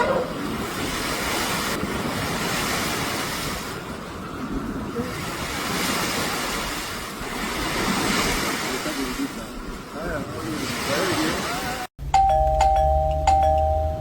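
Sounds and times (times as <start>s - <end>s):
wind buffeting microphone: 0.0s - 11.8s
waves rushing: 0.0s - 11.9s.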